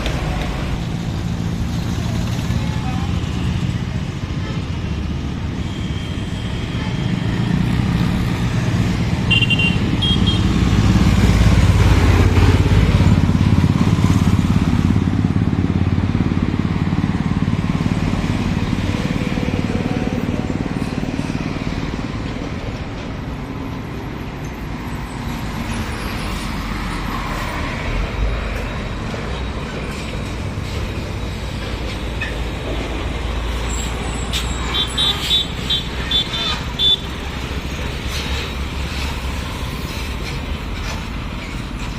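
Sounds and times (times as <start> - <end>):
traffic rumble: 0.0 - 41.9
heavy truck passing: 6.1 - 41.9.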